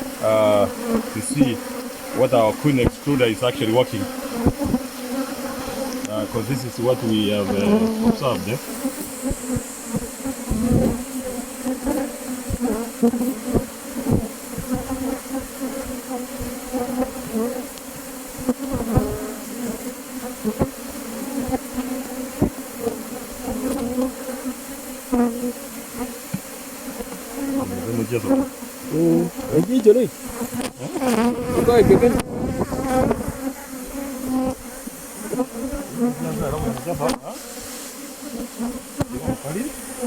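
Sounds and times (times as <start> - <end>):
bees buzzing: 0.0 - 40.0.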